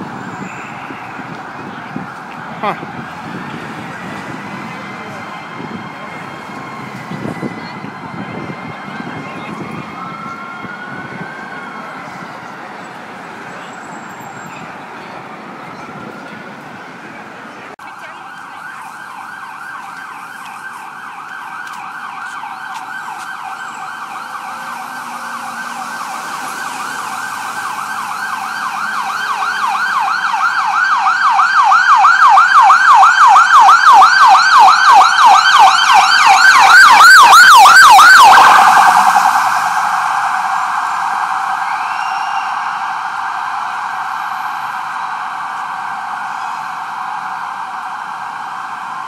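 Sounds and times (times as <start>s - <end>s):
ambulance siren yelping: 0.0s - 49.0s.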